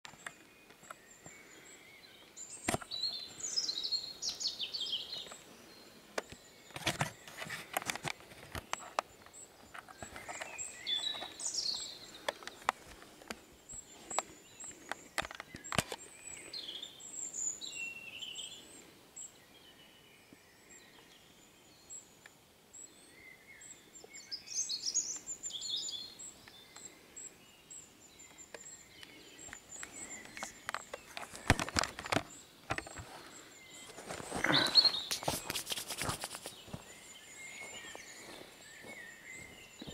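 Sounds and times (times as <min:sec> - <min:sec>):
faint outdoor hiss: 0:00.0 - 0:39.9
songbirds singing: 0:00.0 - 0:39.9.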